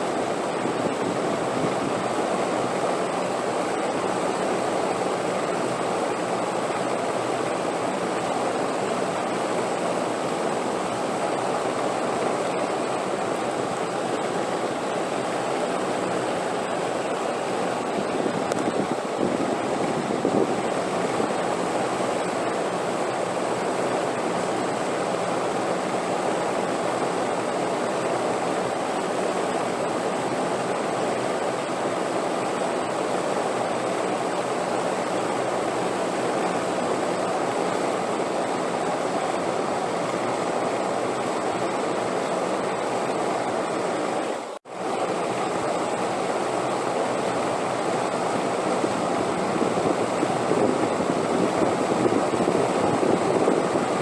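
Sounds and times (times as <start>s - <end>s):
steady wind rushing: 0.0s - 31.0s, 31.7s - 54.0s.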